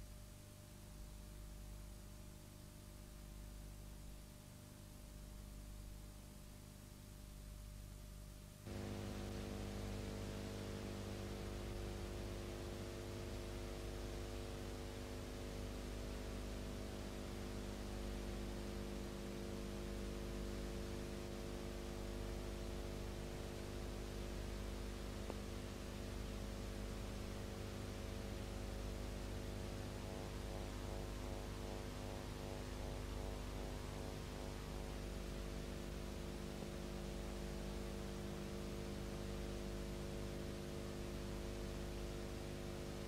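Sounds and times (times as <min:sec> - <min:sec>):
electrical hum with hiss: 0:00.0 - 0:43.0.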